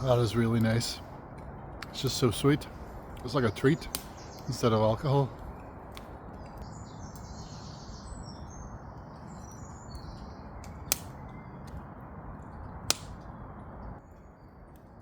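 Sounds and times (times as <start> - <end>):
small birds chirping: 0.0 - 15.0
wood fire popping: 0.0 - 15.0.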